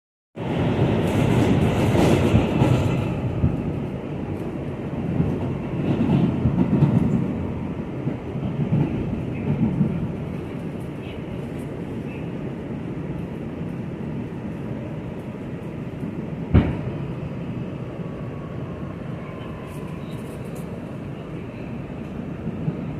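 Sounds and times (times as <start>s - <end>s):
subway train rumbling on rails: 0.4s - 22.9s.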